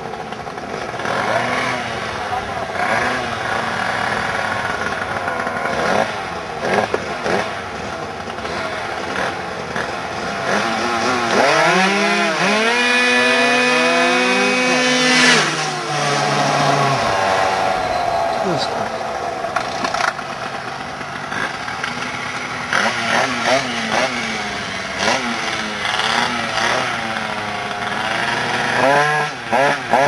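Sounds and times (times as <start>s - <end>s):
two-stroke engines revving: 0.0s - 30.0s.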